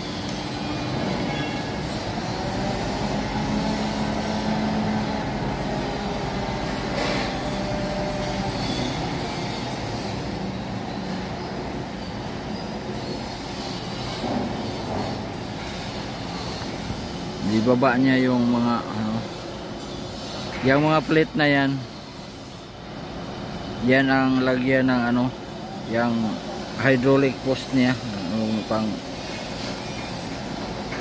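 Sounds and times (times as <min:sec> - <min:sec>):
crane engine and hydraulics: 0:00.0 - 0:31.0.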